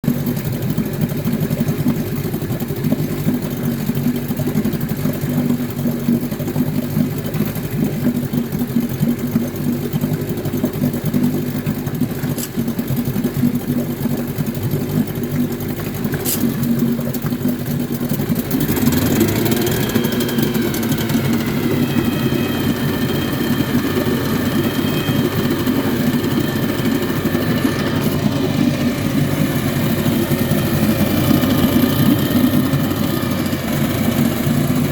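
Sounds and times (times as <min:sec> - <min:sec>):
engine whine: 0:00.0 - 0:34.9
outboard motor running: 0:00.0 - 0:34.9.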